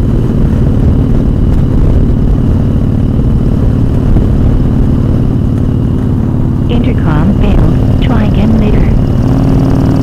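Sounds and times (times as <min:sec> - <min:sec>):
motorcycle engine cruising: 0:00.0 - 0:10.0
wind rush on microphone: 0:00.0 - 0:10.0.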